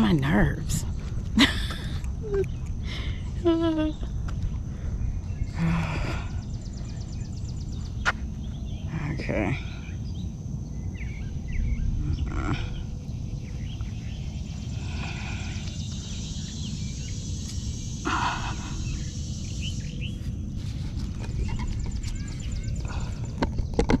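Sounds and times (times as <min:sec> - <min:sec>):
birds chirping: 0:00.0 - 0:24.0
low rumble on microphone: 0:00.0 - 0:24.0
high insect buzz: 0:01.8 - 0:23.9.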